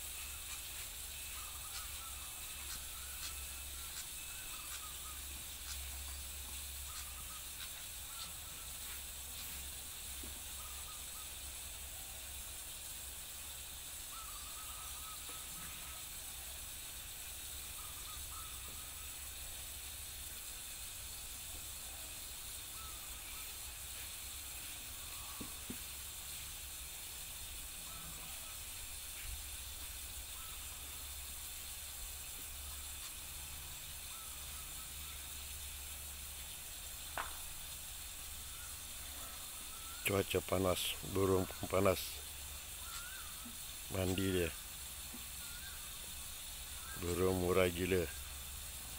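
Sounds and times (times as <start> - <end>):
water trickling over stone: 0.0 - 48.9.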